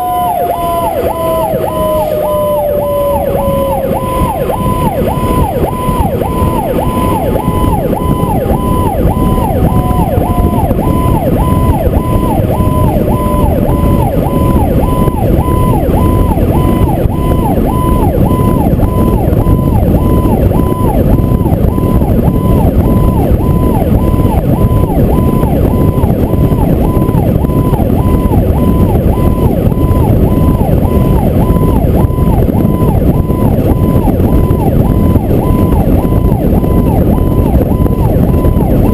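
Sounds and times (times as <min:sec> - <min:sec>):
fire truck siren yelping: 0:00.0 - 0:38.9
slowly falling siren tone: 0:00.0 - 0:38.9
wind and road noise: 0:00.0 - 0:38.9.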